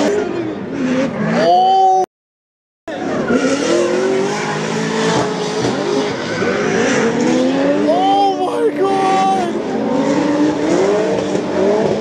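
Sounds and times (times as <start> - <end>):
car engines revving: 0.0 - 2.0, 2.9 - 12.0.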